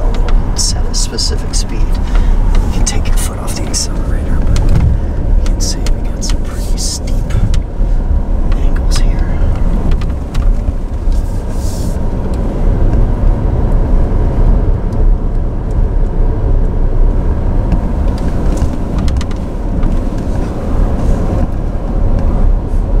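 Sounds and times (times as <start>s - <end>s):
tyres rumbling on dirt track: 0.0s - 23.0s.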